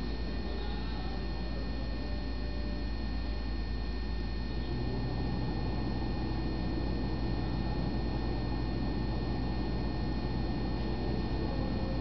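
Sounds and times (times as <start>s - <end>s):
camcorder running noise: 0.0s - 12.0s
faint high-pitched whines: 0.0s - 12.0s.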